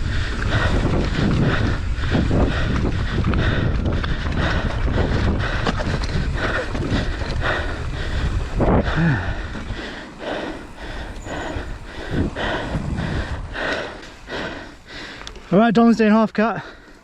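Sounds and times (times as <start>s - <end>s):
wind buffeting microphone: 0.0s - 15.3s
bike rattling and knocking: 0.0s - 15.6s.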